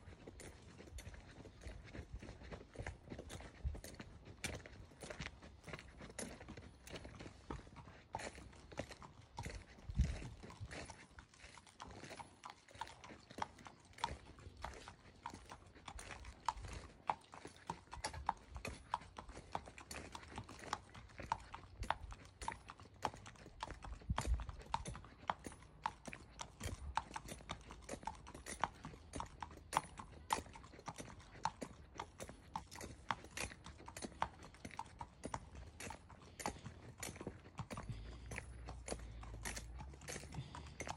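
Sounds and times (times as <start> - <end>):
hooves clip-clopping on concrete: 0.0 - 40.9.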